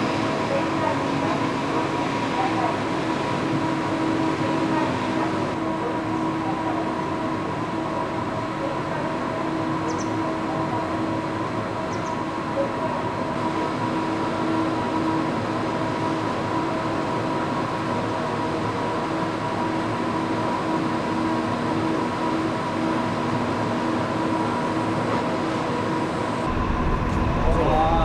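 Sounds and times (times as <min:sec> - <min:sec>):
heavy machinery droning: 0:00.0 - 0:28.0
steady humming tones: 0:00.0 - 0:28.0.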